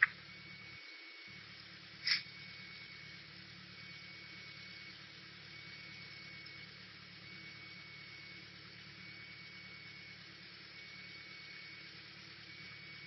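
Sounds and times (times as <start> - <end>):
aircraft engine drone: 0.0 - 13.0
faint constant high tone: 0.0 - 13.0.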